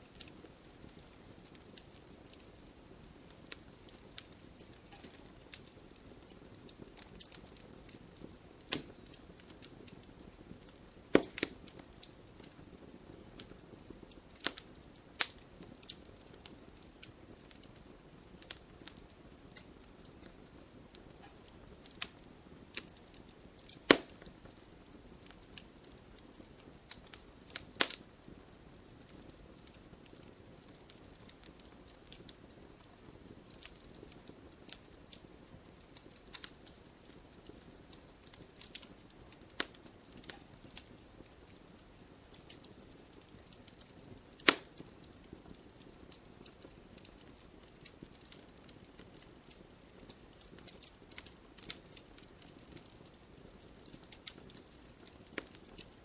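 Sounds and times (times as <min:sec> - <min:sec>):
fire crackling and popping: 0:00.0 - 0:56.0
loud snaps of fire: 0:00.0 - 0:56.0
wood fire hissing: 0:00.0 - 0:56.0.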